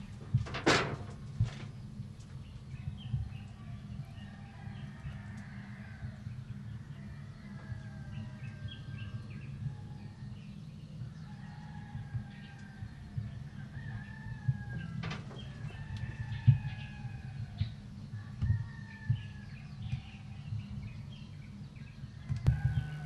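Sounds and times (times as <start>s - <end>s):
steady low rumble: 0.0s - 23.0s
birds chirping and calling: 1.6s - 23.0s.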